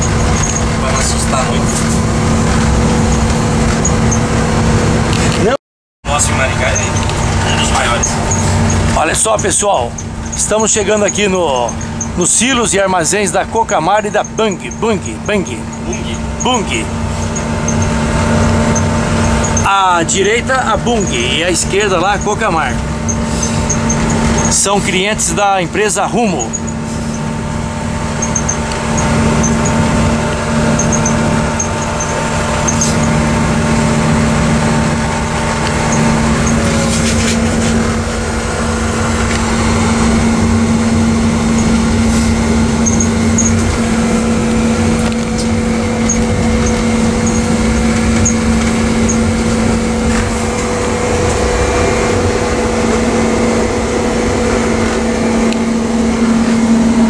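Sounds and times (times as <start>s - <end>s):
locomotive engine hum and rumble: 0.0s - 57.0s
steady whining tones: 0.0s - 57.0s.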